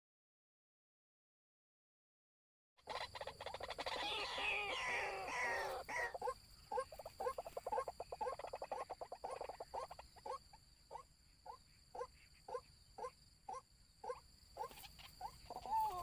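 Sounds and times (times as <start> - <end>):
waterhens calling: 2.8 - 16.0.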